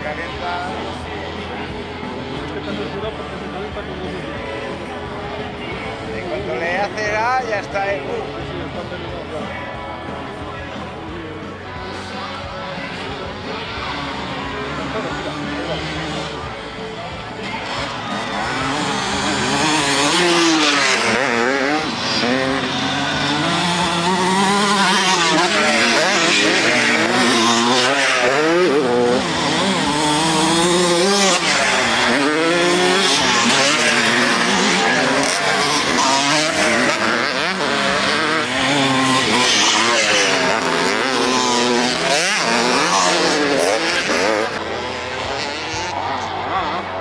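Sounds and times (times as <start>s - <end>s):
motocross bikes revving: 0.0s - 47.0s.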